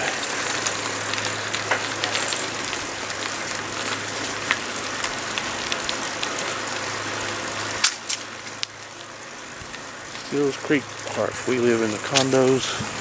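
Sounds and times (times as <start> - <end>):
bicycle riding rushing noise: 0.0 - 13.0.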